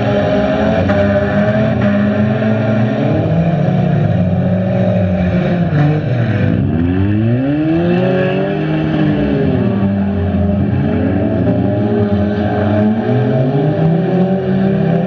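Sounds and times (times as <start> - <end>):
engine revving: 0.0 - 15.0
racing car engines: 0.0 - 15.0.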